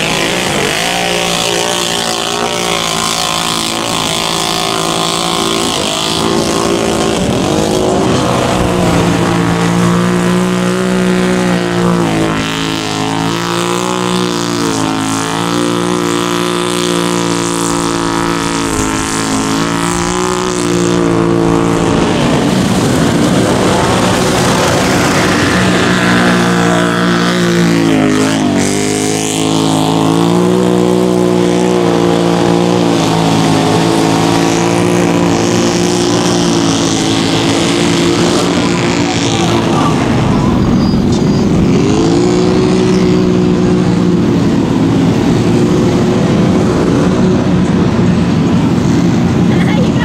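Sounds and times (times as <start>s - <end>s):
atv engines revving high: 0.0s - 50.0s.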